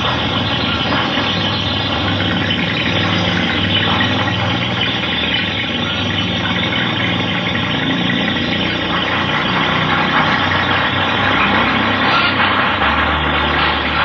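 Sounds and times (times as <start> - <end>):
mechanical engine drone: 0.0 - 14.0.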